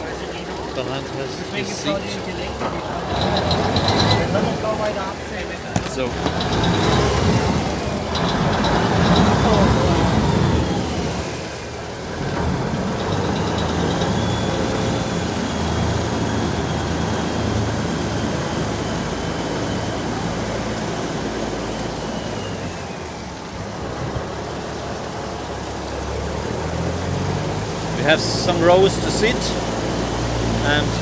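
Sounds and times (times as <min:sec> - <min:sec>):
boat diesel engine humming: 0:00.0 - 0:31.0.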